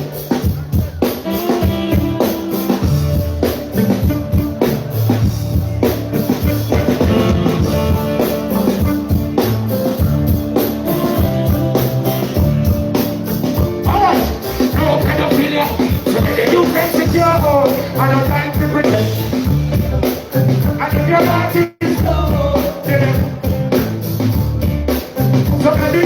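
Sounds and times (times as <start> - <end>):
instrumental reggae music: 0.0 - 26.0.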